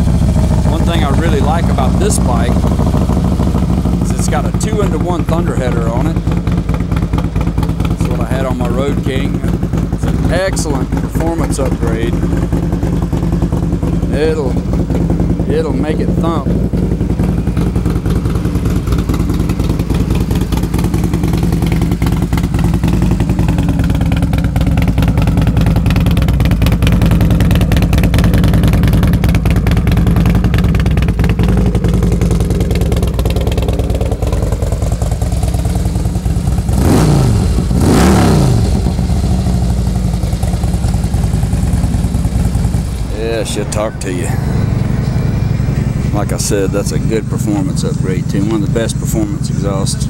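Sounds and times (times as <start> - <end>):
motorcycle engine idling: 0.0 - 50.0
motorcycle throttle revs: 0.0 - 50.0.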